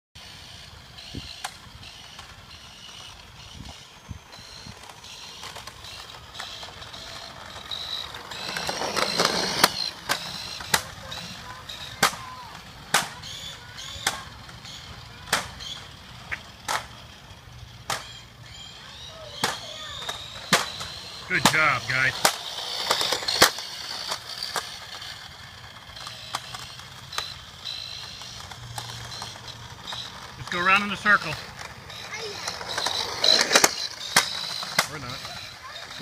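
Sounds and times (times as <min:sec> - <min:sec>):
electric scooter motor whining: 0:00.2 - 0:36.0.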